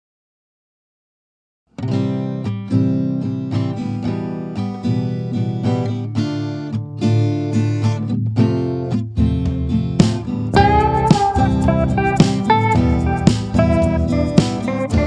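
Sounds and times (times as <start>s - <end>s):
acoustic guitar picking and strumming: 1.7s - 15.0s.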